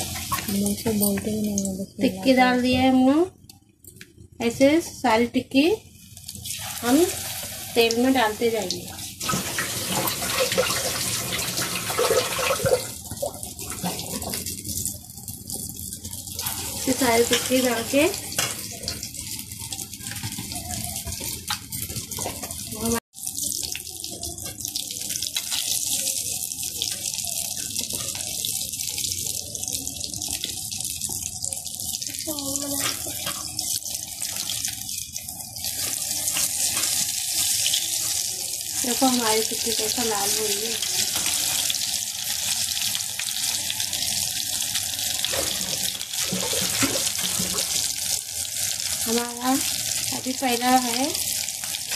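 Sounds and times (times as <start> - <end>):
food deep-frying in hot oil: 0.0 - 51.9.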